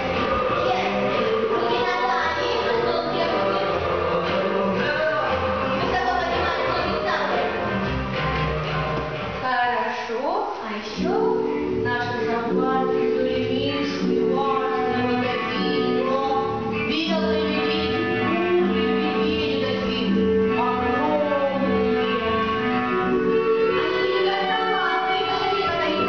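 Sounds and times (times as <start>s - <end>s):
woman singing: 0.0s - 7.5s, 10.7s - 21.8s, 23.7s - 26.0s.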